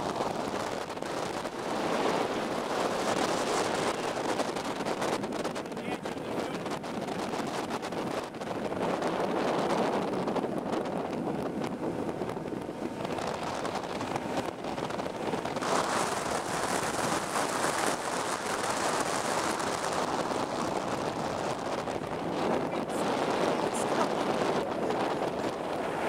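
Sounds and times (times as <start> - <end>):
outboard boat motor: 0.0 - 26.0
rushing water: 0.0 - 26.0
wind buffeting microphone: 0.0 - 26.0.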